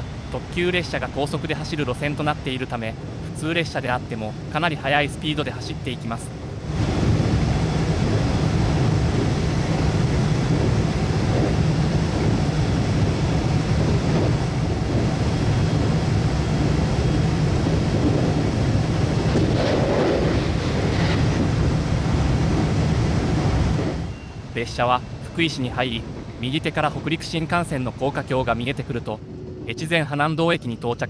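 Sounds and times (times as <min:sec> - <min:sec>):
passing train rush: 0:00.0 - 0:31.0
train wheels rumbling on rail: 0:00.0 - 0:31.0.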